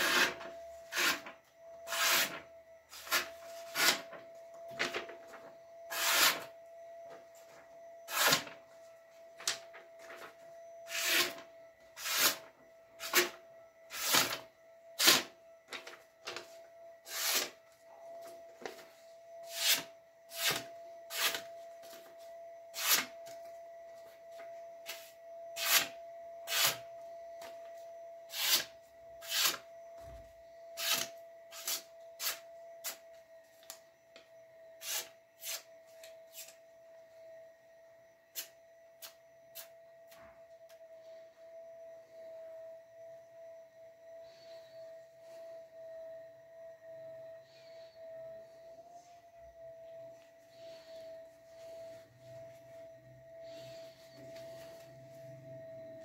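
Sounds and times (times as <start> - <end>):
faint high hum: 0.0 - 56.0.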